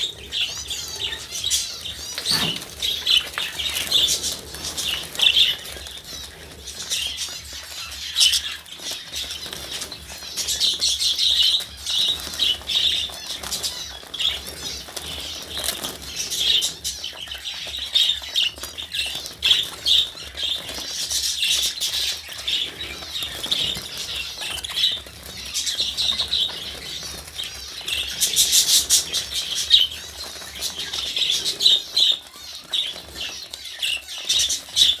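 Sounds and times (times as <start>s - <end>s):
budgerigars chattering: 0.0s - 35.0s.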